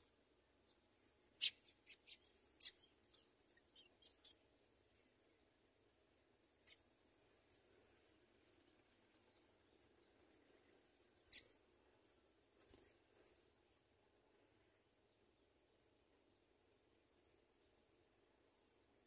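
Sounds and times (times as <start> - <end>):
nestling birds peeping: 0.0 - 15.6.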